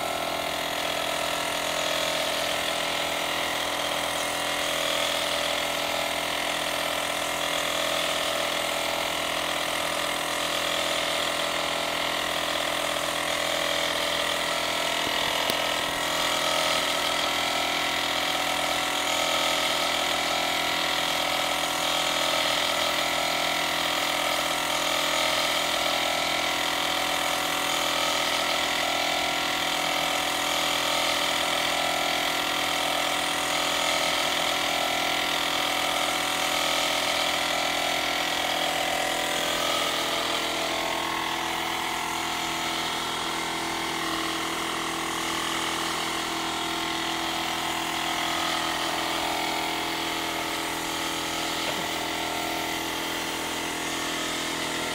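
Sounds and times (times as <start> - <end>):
air compressor running: 0.0 - 54.9.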